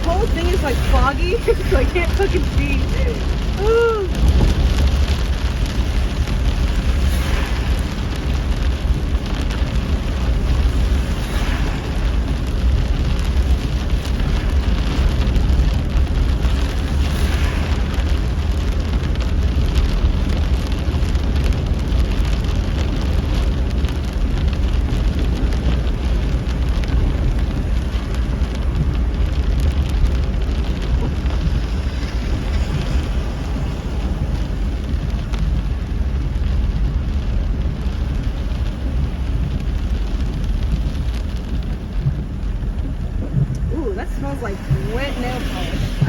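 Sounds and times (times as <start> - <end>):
rain hissing and pattering: 0.0 - 46.0
road and wind noise: 0.0 - 46.0.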